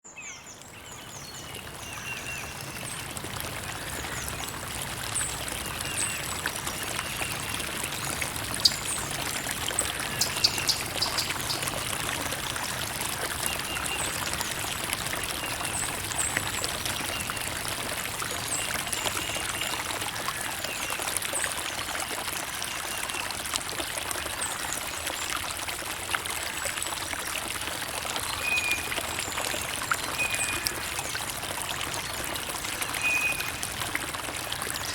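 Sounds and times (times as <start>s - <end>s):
creek water trickling: 0.1s - 34.9s
water splashes: 0.7s - 34.9s.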